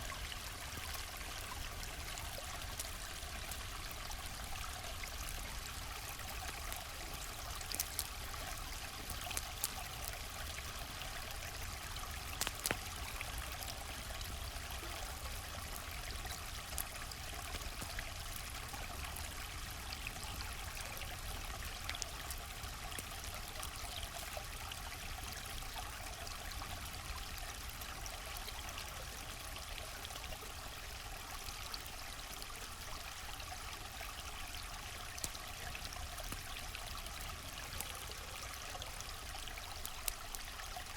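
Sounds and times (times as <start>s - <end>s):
river water flowing: 0.0s - 40.9s
campfire crackling and popping: 0.1s - 28.7s, 31.9s - 40.9s.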